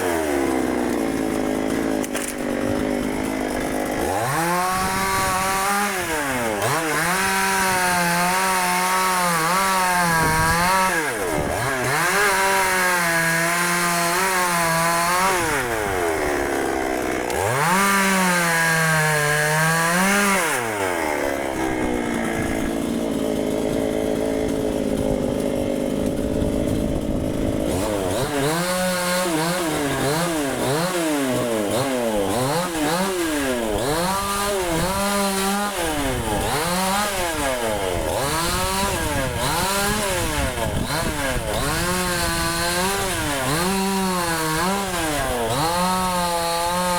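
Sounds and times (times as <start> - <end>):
chainsaw sawing wood: 0.0 - 46.9.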